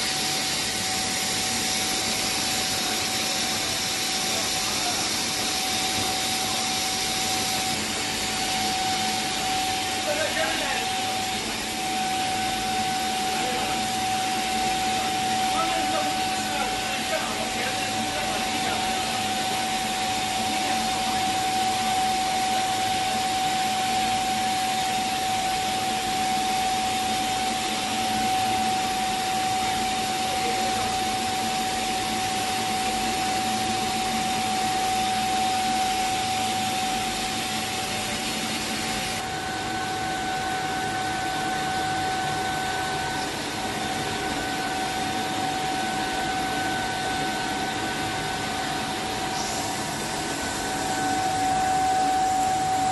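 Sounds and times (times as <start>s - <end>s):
higher machine whine: 0.0s - 52.9s
production line machine whirring: 0.0s - 52.9s.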